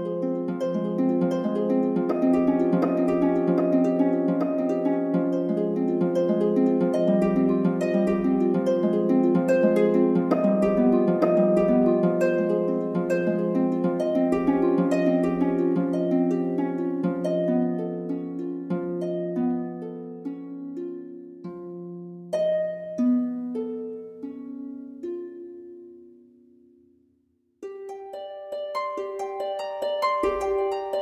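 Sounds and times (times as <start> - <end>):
plucked harp music: 0.0 - 31.0.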